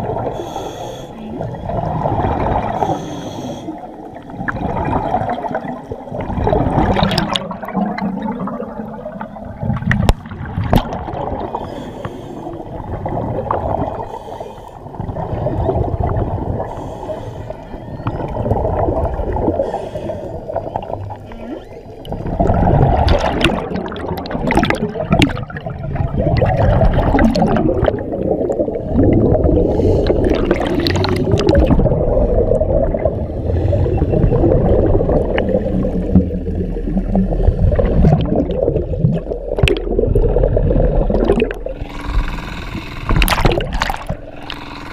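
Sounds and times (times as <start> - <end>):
underwater water sloshing: 0.0 - 44.9.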